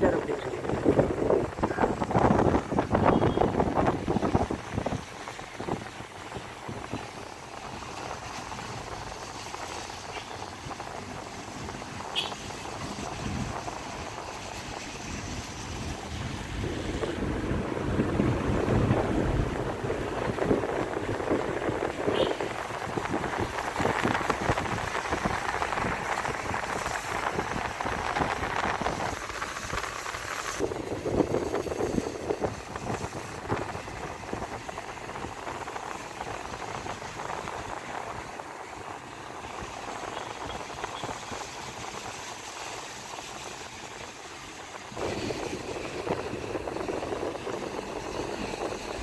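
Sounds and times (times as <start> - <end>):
road and wind noise: 0.0 - 49.0.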